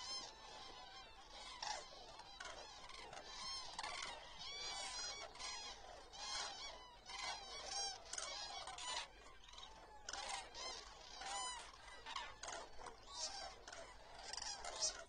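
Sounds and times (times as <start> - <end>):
cranes trumpeting calls: 0.0 - 15.0.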